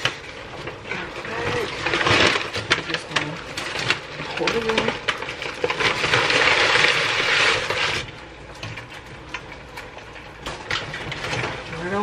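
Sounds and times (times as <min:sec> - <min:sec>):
crawfish shells clattering from bag: 0:00.0 - 0:12.0.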